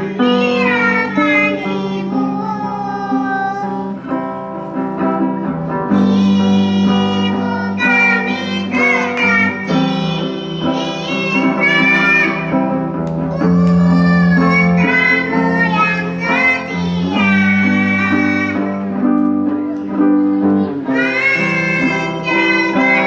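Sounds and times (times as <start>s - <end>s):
girls singing: 0.0s - 4.0s, 5.9s - 19.2s, 20.0s - 23.0s
acoustic guitar: 0.0s - 23.0s.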